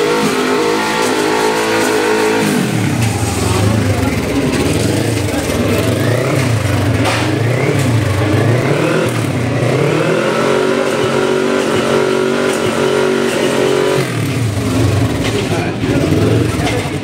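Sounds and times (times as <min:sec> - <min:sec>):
motorcycle engines at high revs: 0:00.0 - 0:17.0.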